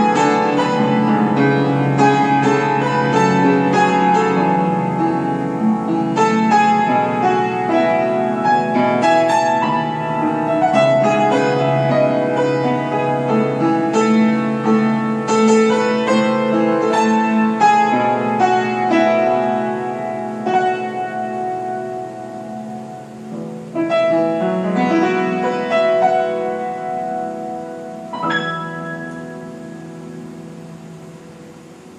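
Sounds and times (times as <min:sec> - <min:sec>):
slow solo piano piece: 0:00.0 - 0:31.9.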